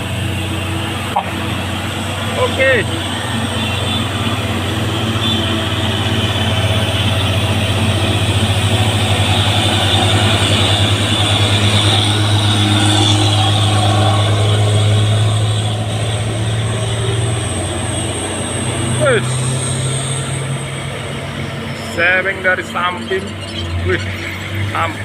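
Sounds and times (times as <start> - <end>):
diesel truck engine labouring: 0.0 - 25.0.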